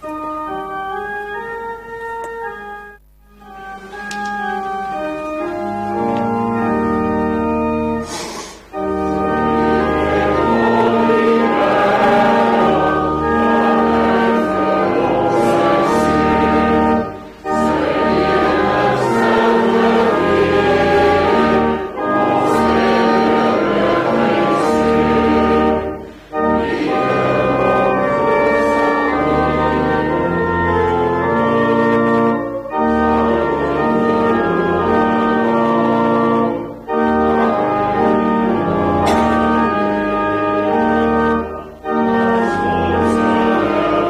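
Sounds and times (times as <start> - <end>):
organ playing a hymn: 0.0 - 44.0.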